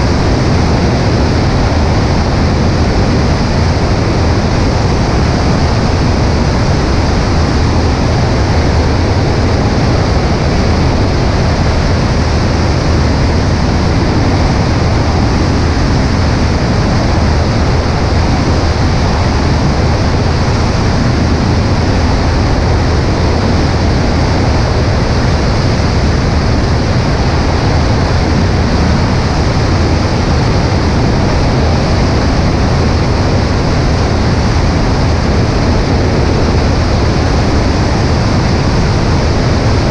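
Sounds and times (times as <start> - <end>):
airplane engine and propeller drone: 0.0 - 39.9
rushing wind on microphone: 0.0 - 39.9.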